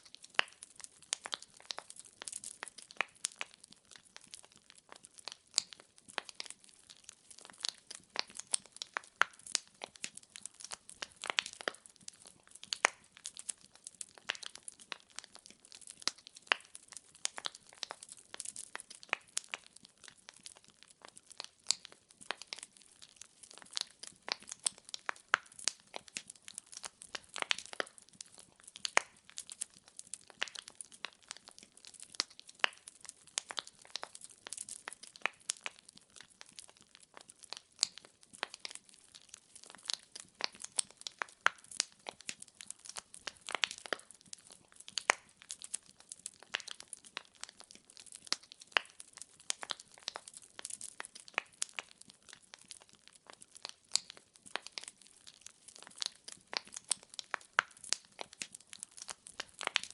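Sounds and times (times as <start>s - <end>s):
fireplace wood crackling: 0.0s - 59.9s
sharp pops and snaps: 0.0s - 59.9s.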